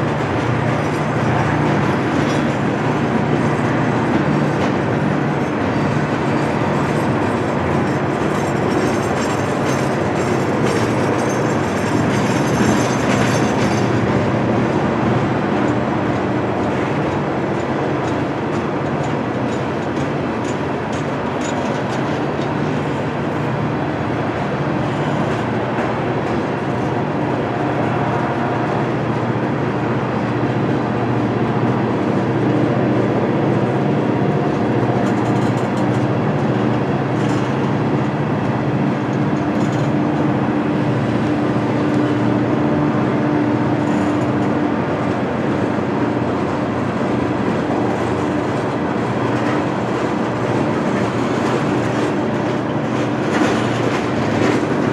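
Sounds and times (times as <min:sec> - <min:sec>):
diesel locomotive engines droning: 0:00.0 - 0:54.9
train rolling noise: 0:00.0 - 0:54.9.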